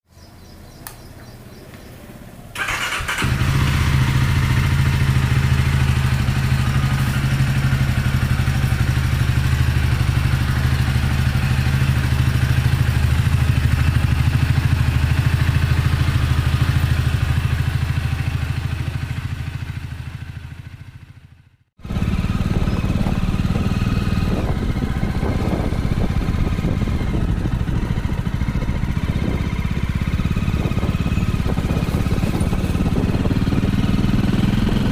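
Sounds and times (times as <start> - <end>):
motorcycle engine idling: 0.2 - 34.9
motorcycle engine starting: 0.4 - 34.9.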